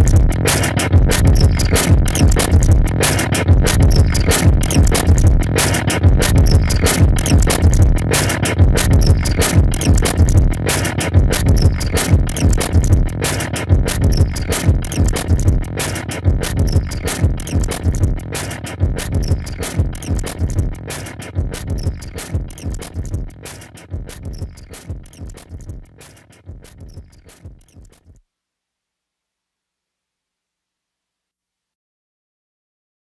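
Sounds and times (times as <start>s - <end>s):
electronic synth music: 0.0s - 28.0s.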